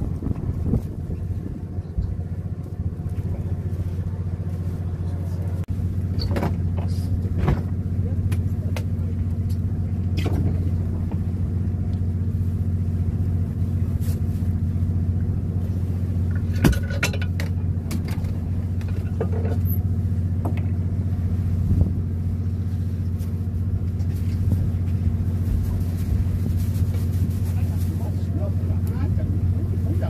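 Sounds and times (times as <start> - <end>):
boat engine drone: 0.0 - 30.0.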